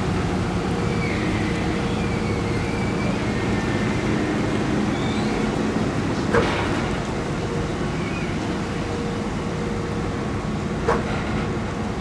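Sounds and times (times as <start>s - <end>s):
truck diesel engines droning: 0.0s - 12.0s.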